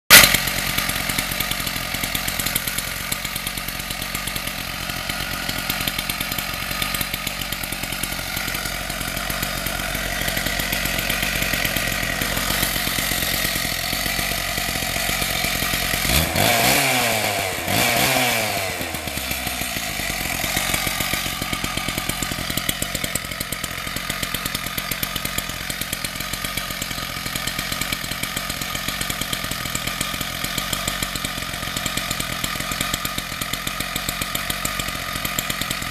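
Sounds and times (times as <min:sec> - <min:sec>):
power cutter engine running: 0:00.1 - 0:35.9.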